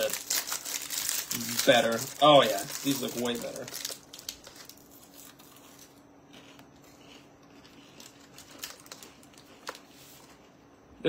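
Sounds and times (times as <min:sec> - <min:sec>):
foil wrappers crinkling: 0:00.0 - 0:10.6
low steady hum: 0:00.0 - 0:11.0.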